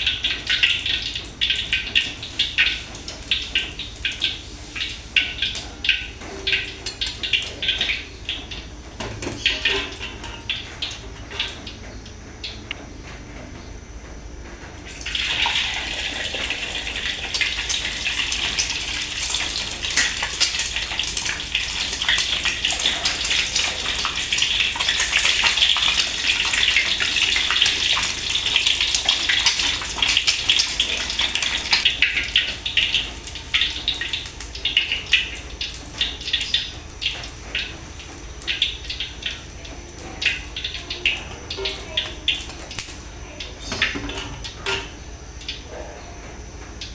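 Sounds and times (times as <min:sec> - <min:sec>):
food sizzling in hot oil: 0:00.0 - 0:10.8, 0:14.9 - 0:45.0.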